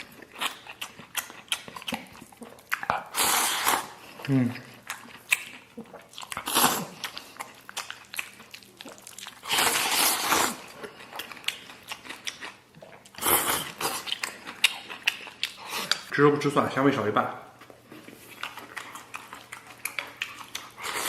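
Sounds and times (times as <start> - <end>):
person chewing food: 0.0 - 16.1, 17.5 - 21.0.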